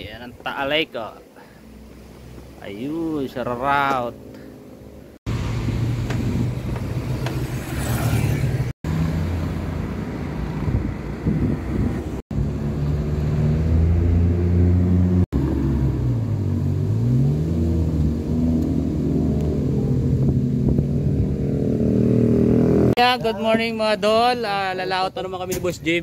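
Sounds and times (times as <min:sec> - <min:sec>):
car and motorcycle engines: 0:01.0 - 0:26.0.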